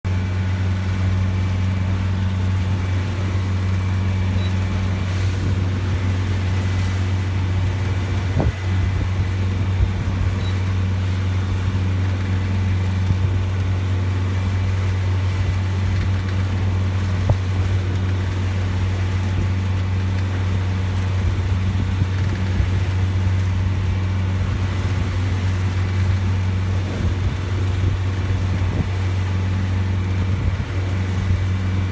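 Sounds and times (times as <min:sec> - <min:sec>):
strong wind rumbling on microphone: 0:00.5 - 0:31.9.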